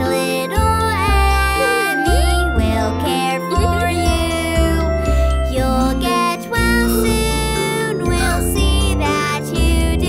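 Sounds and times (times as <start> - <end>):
children's nursery rhyme music: 0.0 - 10.0.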